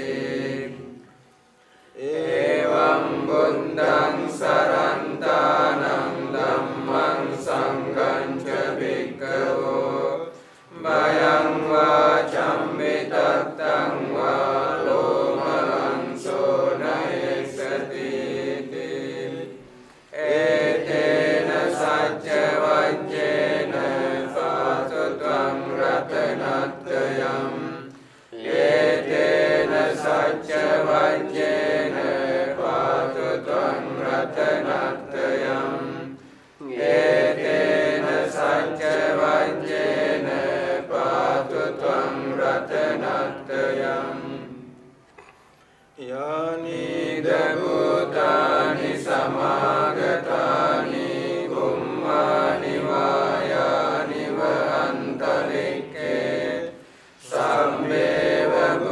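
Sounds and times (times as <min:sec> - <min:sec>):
monks chanting: 0:00.0 - 0:01.1, 0:02.0 - 0:44.8, 0:46.0 - 0:58.9.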